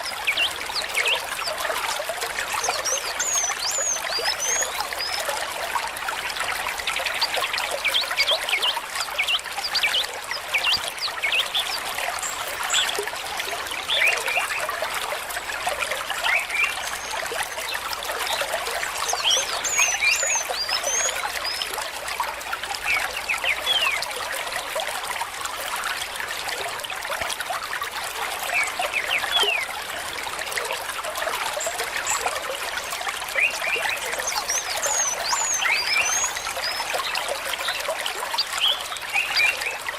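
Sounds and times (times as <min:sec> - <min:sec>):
stream water flowing: 0:00.0 - 0:39.9
water gurgling: 0:00.0 - 0:39.9.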